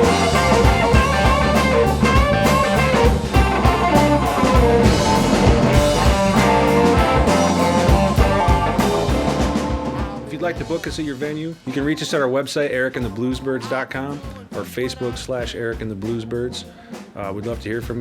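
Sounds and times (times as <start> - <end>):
blues guitar: 0.0 - 17.2
bass: 0.0 - 18.0
drum kit: 0.0 - 18.0.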